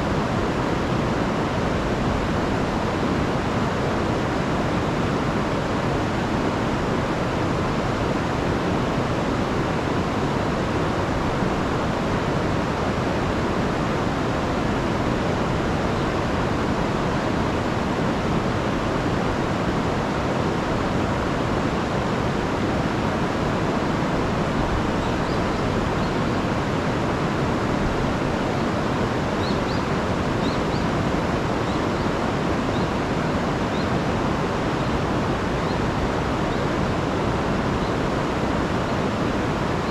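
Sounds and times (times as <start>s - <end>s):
water rushing over waterfall: 0.0s - 39.9s.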